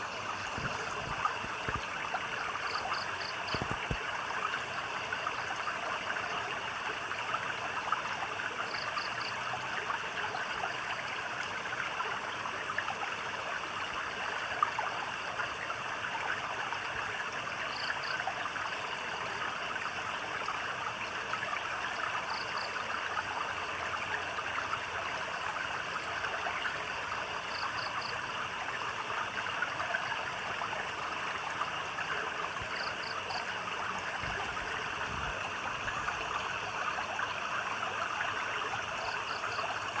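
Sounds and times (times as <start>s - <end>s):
stream trickling and babbling: 0.0s - 40.0s.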